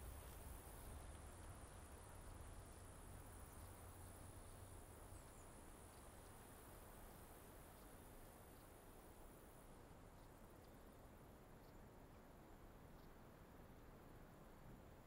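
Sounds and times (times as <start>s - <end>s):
steady high-pitched hiss: 0.0s - 15.0s.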